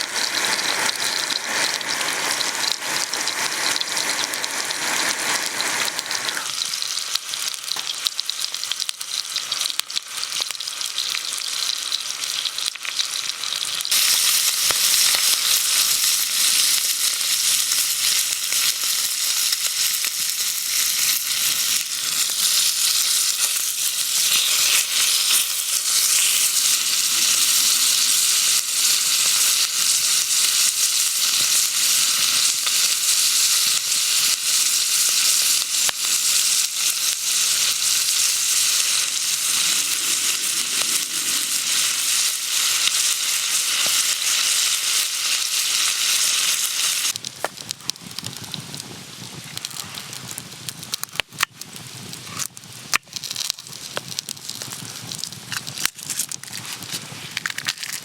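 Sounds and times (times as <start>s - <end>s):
food sizzling in hot pan: 0.0s - 58.0s.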